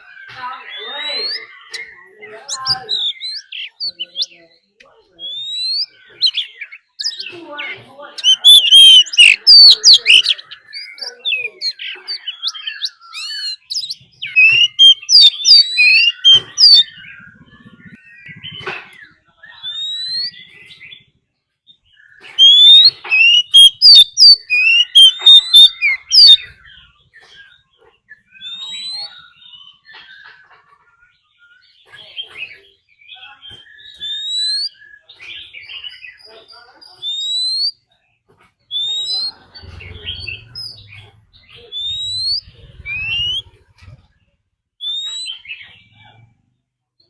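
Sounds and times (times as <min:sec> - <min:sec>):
bird whistling song: 0:00.0 - 0:04.4, 0:05.2 - 0:07.4, 0:08.2 - 0:21.1, 0:21.8 - 0:30.5, 0:31.3 - 0:36.3, 0:36.9 - 0:37.9, 0:38.7 - 0:43.6, 0:44.8 - 0:46.0.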